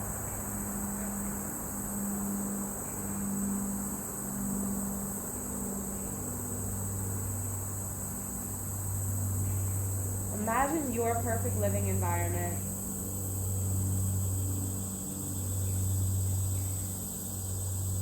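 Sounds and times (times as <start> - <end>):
crickets and insects chirping: 0.0 - 18.0.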